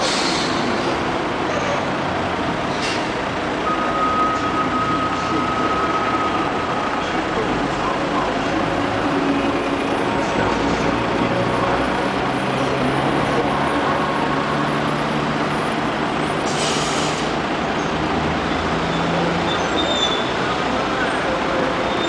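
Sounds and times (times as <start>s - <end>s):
city street traffic: 0.0s - 22.0s
heavy vehicle engine drone: 0.0s - 22.0s.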